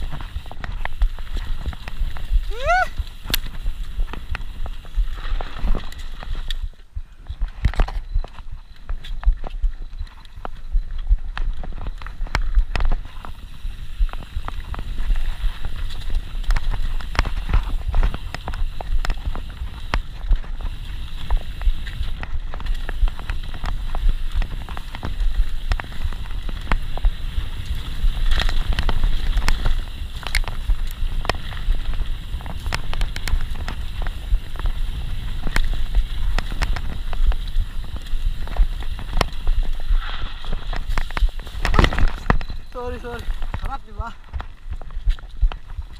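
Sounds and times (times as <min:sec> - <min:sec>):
bike rattling over bumps: 0:00.0 - 0:45.9
wind rumbling on microphone: 0:00.0 - 0:45.9.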